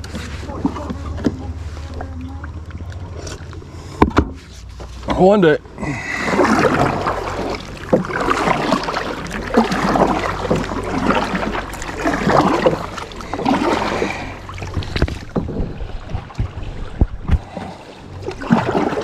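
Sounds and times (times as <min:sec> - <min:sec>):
paddle splashing in water: 0:00.0 - 0:19.0
water lapping against hull: 0:00.0 - 0:19.0.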